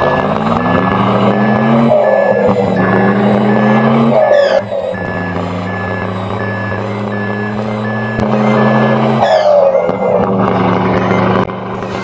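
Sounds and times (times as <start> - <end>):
reversing beeper: 0.0 - 12.0
simulated engine hum: 0.0 - 12.0.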